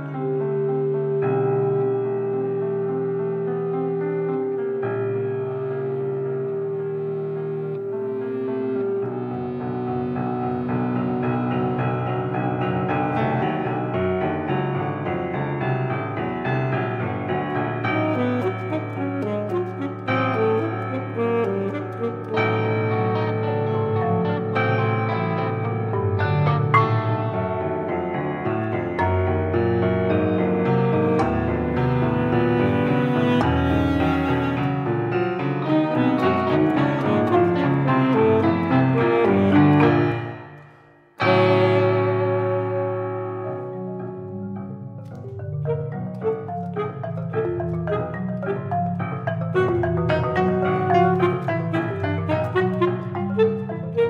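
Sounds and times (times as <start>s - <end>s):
chamber ensemble playing: 0.0s - 16.2s, 16.8s - 54.0s
piano quick repeated notes: 0.0s - 54.0s.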